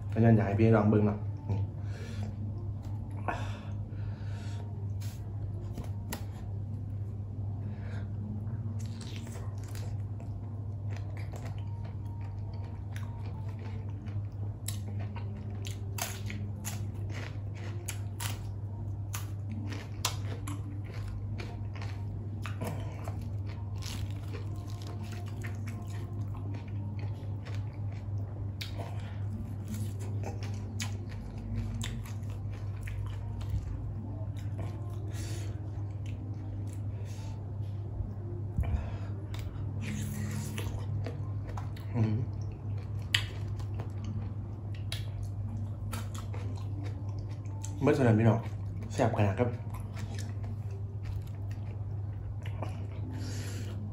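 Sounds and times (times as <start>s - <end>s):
steady low hum: 0.0s - 53.9s
person chewing wet crunches: 8.7s - 53.9s.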